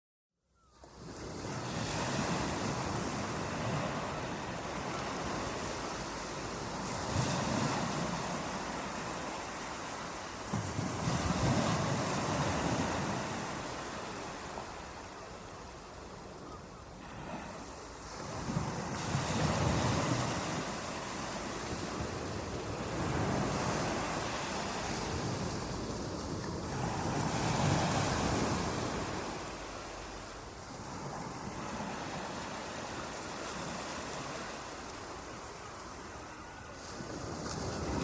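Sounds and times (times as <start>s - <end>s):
ocean waves washing ashore: 0.8s - 38.0s.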